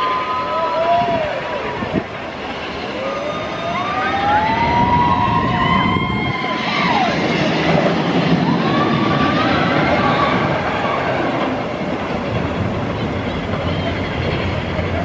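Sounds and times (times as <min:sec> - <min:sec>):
coaster wheels squealing: 0:00.0 - 0:15.0
rumble of coaster cars: 0:00.0 - 0:15.0.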